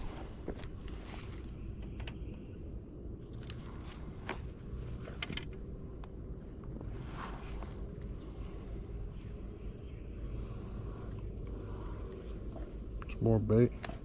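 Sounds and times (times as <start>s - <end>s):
pulsing insect trill: 0.0s - 14.0s.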